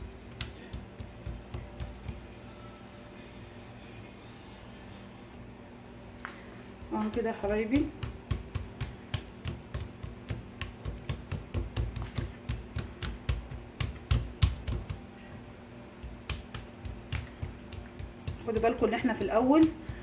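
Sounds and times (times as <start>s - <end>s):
hands patting dough: 0.0s - 2.5s, 6.3s - 20.0s.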